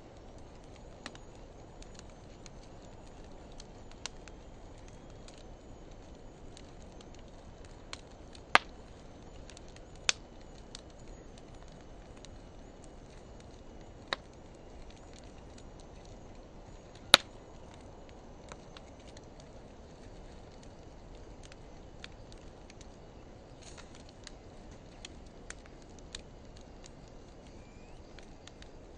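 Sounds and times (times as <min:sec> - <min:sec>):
wood fire hissing and crackling: 0:00.0 - 0:28.9
sharp pops of fire: 0:00.2 - 0:28.8.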